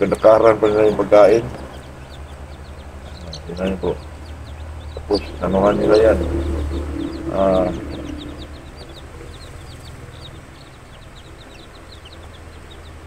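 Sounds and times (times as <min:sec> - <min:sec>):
chicks peeping: 0:00.0 - 0:13.0
steady low hum: 0:00.0 - 0:13.0.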